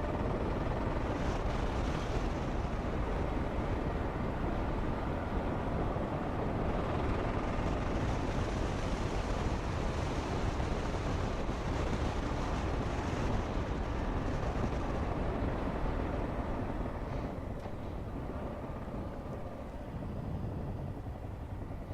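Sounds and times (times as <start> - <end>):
motorcycle engine and tyre noise: 0.0 - 21.9
wind rush on microphone: 0.0 - 21.9.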